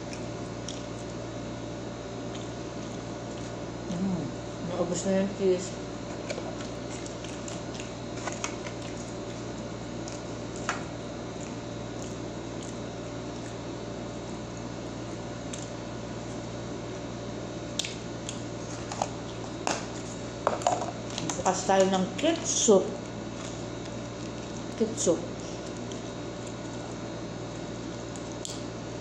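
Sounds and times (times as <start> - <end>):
air conditioner hum and hiss: 0.0 - 29.0.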